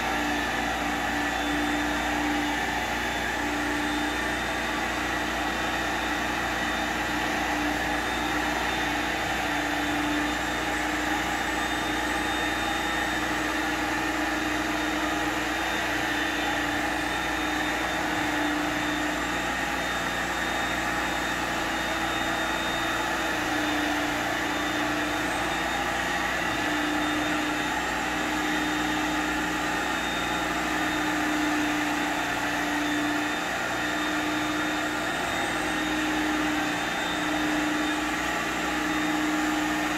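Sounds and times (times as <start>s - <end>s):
carpet extractor running: 0.0s - 39.9s.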